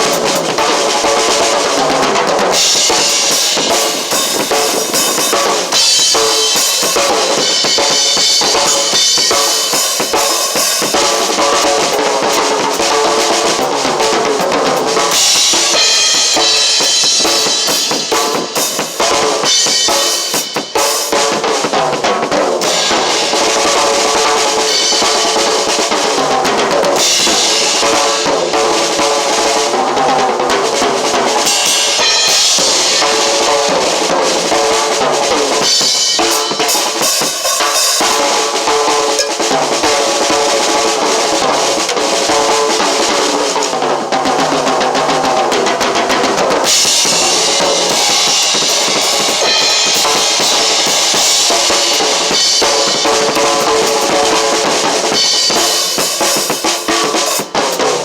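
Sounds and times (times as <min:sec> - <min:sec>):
drum kit playing loudly: 0:00.0 - 0:58.0.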